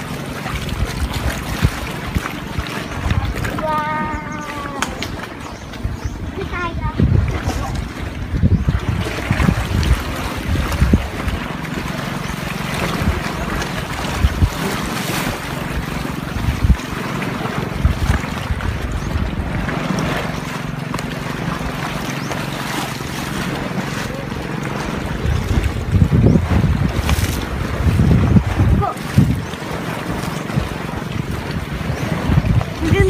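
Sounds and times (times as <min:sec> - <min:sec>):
water washing against rocks: 0:00.0 - 0:05.4, 0:06.4 - 0:33.0
low steady drone: 0:00.0 - 0:28.5
wind buffeting microphone: 0:00.0 - 0:33.0.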